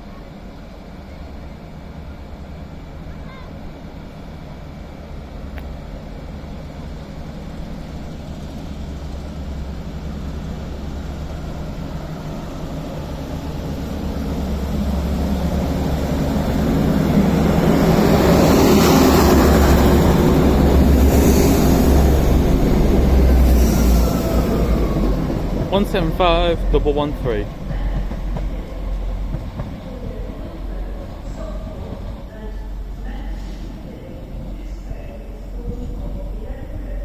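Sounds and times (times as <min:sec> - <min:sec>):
train wheel and rail noise: 0:00.0 - 0:37.0.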